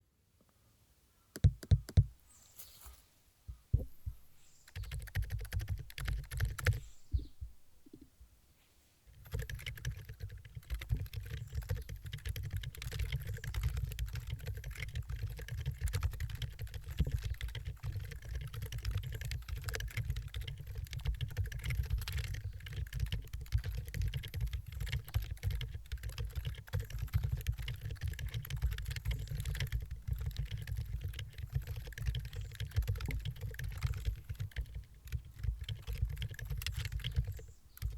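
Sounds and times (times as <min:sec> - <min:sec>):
keyboard typing: 0:01.4 - 0:02.1, 0:04.7 - 0:06.8, 0:09.1 - 0:37.9.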